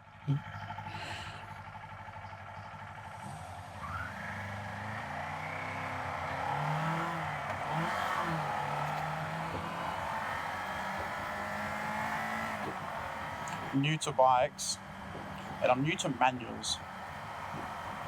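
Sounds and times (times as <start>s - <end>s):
motorcycle engine revving: 0.0s - 13.8s, 14.7s - 18.0s.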